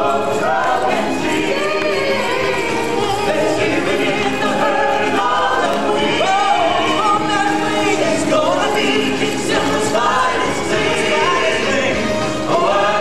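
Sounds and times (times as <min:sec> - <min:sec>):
choir singing: 0:00.0 - 0:13.0
music: 0:00.0 - 0:13.0.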